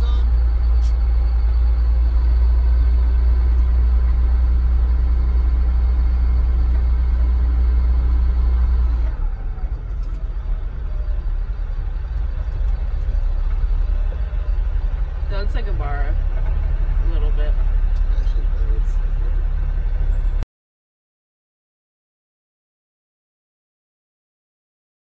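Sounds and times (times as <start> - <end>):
diesel engine rumbling: 0.0 - 20.4.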